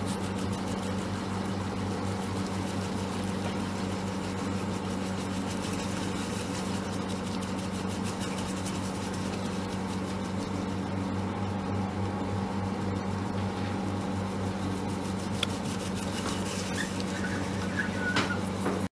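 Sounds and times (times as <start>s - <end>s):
bread machine motor humming: 0.0s - 18.9s.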